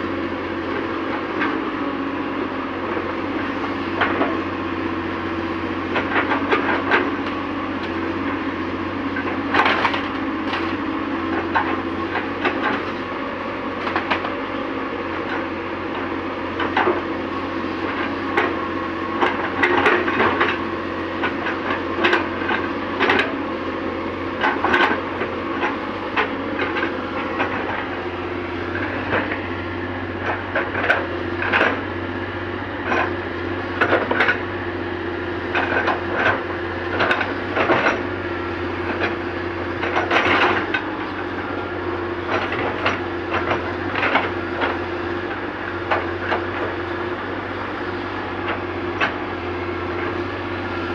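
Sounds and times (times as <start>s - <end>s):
excavator engine running: 0.0s - 50.9s.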